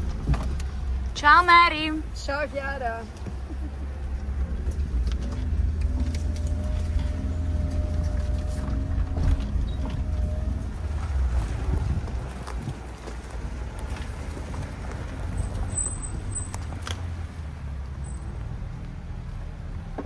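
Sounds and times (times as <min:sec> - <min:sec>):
low engine drone: 0:00.0 - 0:17.8.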